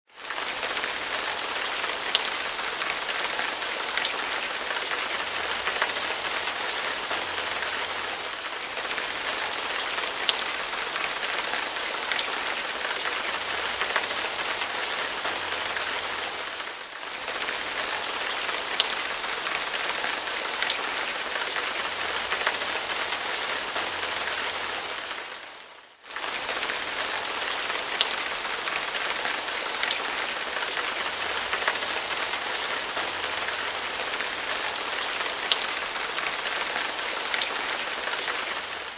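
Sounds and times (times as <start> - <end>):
steady rain falling: 0.1 - 38.9.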